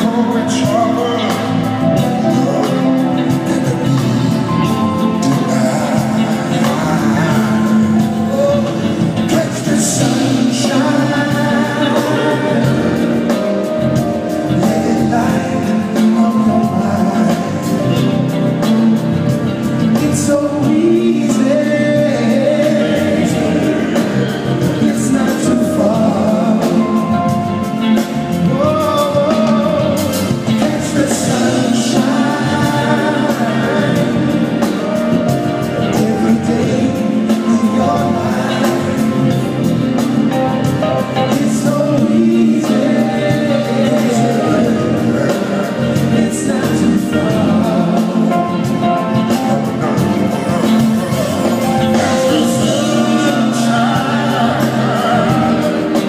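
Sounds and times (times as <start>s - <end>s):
live band with singing: 0.0s - 56.0s.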